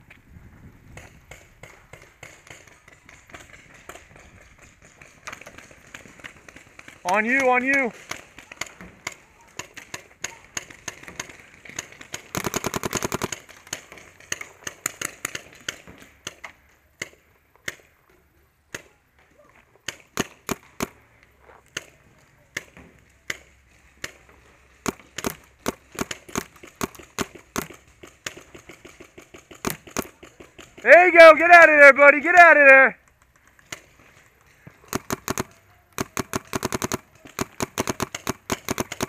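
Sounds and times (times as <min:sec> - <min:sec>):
paintball markers firing: 0:00.9 - 0:17.9, 0:19.8 - 0:21.0, 0:21.7 - 0:31.4, 0:33.0 - 0:39.0.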